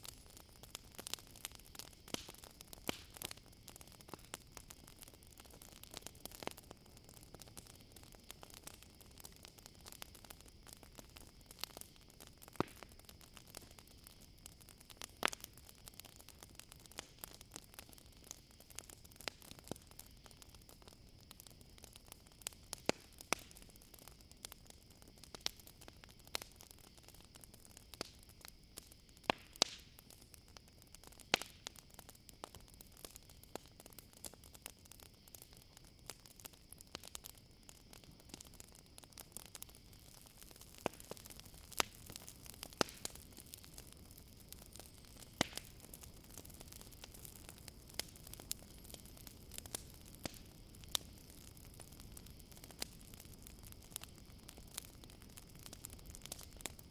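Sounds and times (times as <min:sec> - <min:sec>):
campfire crackling: 0:00.0 - 0:56.9
crickets chirring: 0:00.0 - 0:56.9.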